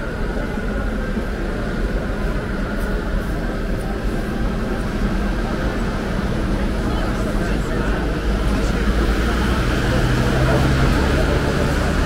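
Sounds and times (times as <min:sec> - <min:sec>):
low rumbling street noise: 0:00.0 - 0:12.0.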